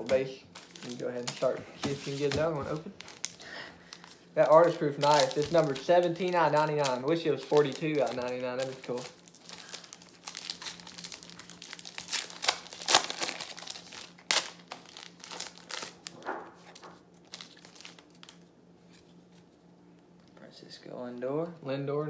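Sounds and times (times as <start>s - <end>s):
wrapper ripping: 0.0s - 19.0s
wrappers crinkling: 0.0s - 19.4s.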